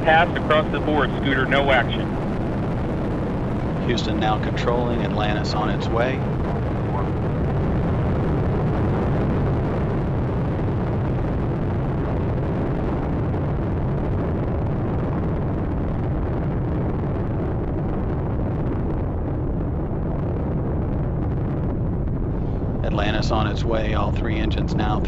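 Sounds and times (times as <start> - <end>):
rocket engines rumbling: 0.0 - 25.0.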